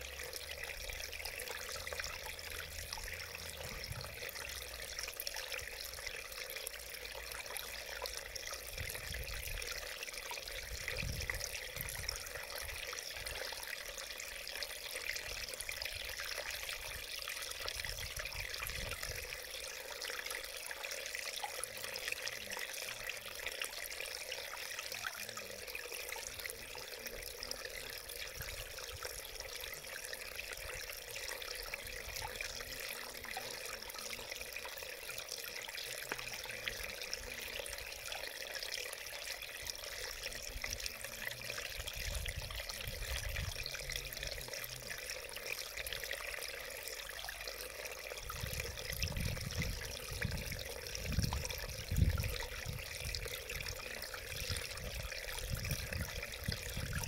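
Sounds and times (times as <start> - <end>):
stream gurgling over rocks: 0.0 - 57.0.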